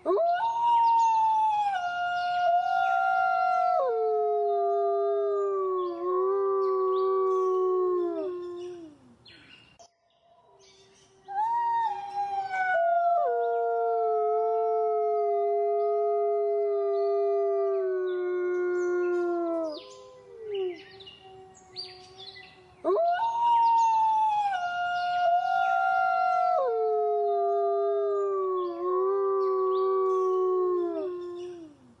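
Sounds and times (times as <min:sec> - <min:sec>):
wolves howling: 0:00.0 - 0:08.9, 0:11.4 - 0:31.7.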